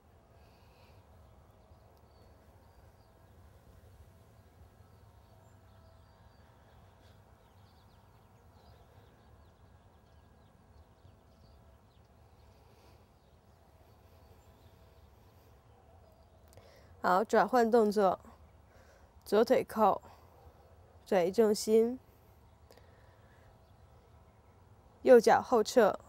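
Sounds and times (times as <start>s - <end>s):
distant bird chirps: 0.0s - 26.0s
low steady hum: 0.0s - 26.0s.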